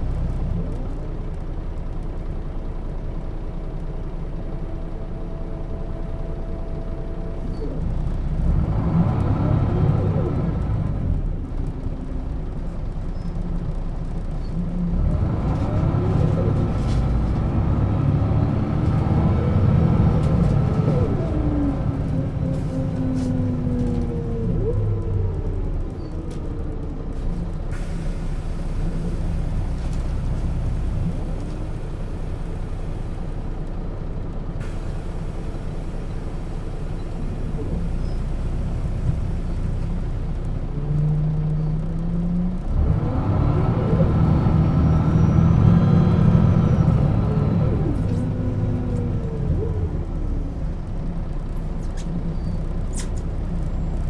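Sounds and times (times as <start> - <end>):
bus diesel engine driving: 0.0 - 54.0.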